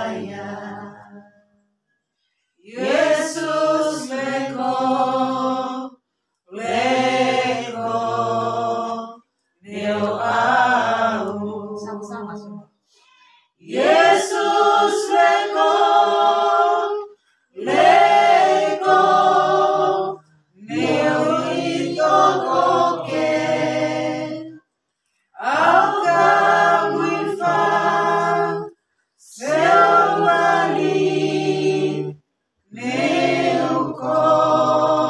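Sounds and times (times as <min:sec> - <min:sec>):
women's choir singing a hymn: 0:00.0 - 0:01.4, 0:02.6 - 0:12.7, 0:13.6 - 0:24.6, 0:25.4 - 0:35.0.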